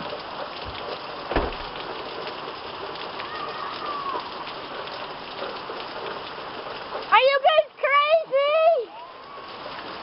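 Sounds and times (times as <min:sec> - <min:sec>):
heavy rain hissing: 0:00.0 - 0:10.0
raindrops pattering on surfaces: 0:00.0 - 0:10.0.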